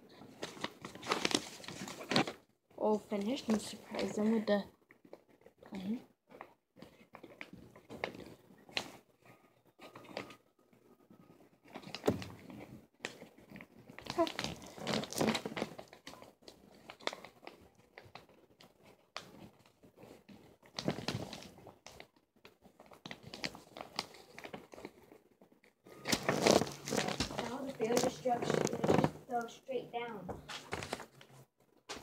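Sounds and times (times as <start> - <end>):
paper crinkling and rustling: 0.2 - 2.5, 6.3 - 10.4, 11.3 - 29.5, 30.4 - 32.0.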